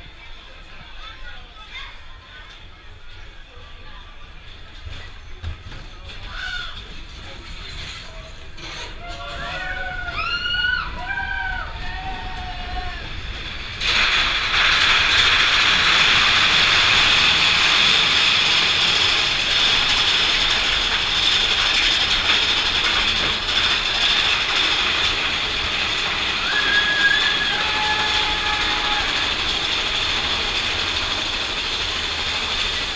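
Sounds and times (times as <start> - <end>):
roller coaster lift chain clattering: 0.1 - 32.9.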